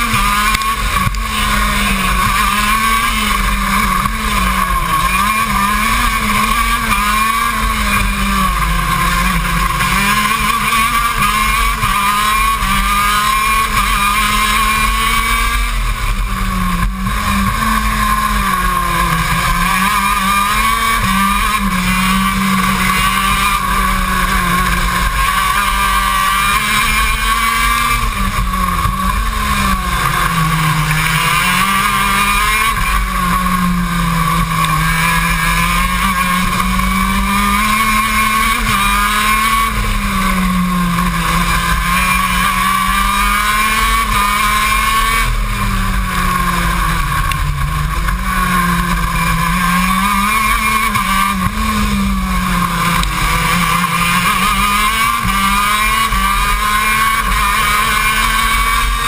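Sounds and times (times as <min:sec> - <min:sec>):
kart engine at racing speed: 0:00.0 - 0:59.0.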